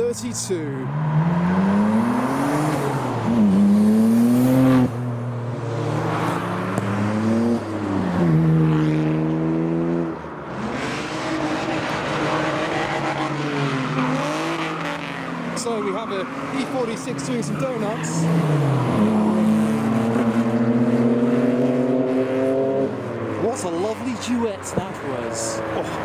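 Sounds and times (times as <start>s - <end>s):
car engine revving: 0.7s - 26.0s.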